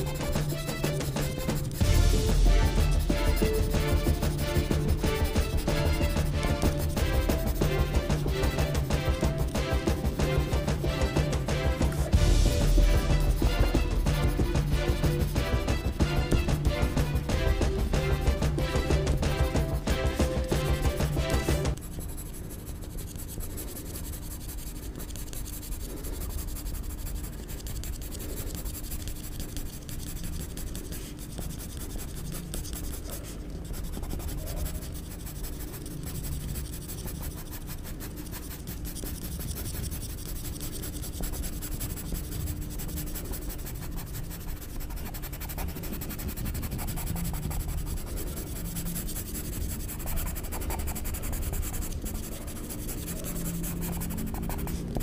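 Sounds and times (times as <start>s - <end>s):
pencil scratching on paper: 0.0s - 55.0s.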